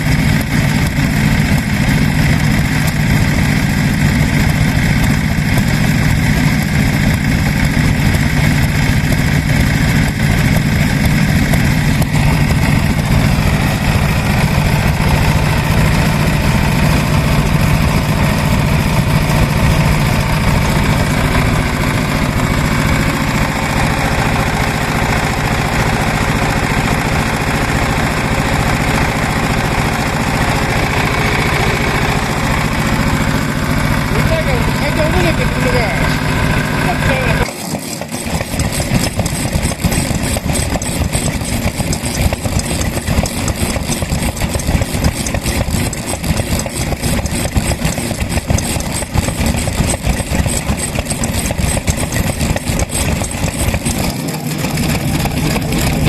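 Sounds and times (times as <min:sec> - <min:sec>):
old stationary engines idling: 0:00.0 - 0:56.0.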